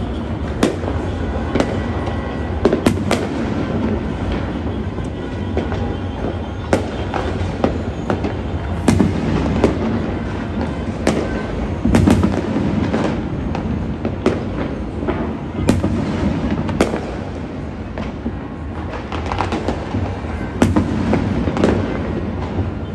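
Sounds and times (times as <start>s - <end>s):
distant fireworks rumble and crackle: 0.0s - 22.9s
loud firework bangs: 0.0s - 22.9s.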